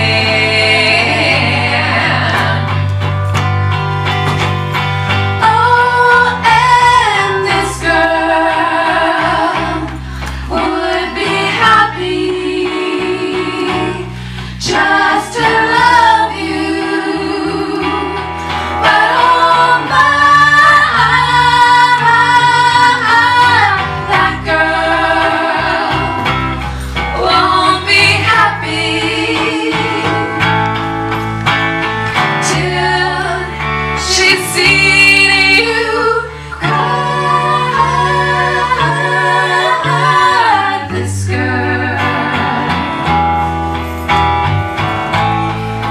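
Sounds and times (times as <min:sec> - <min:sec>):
women singing in harmony: 0:00.0 - 0:02.9, 0:05.4 - 0:30.8, 0:32.4 - 0:43.4
guitar accompaniment: 0:00.0 - 0:45.9.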